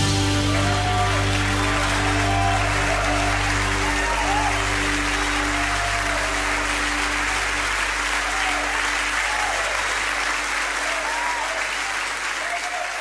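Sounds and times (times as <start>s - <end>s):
band's held final chord: 0.0s - 11.1s
congregation applauding: 0.0s - 13.0s.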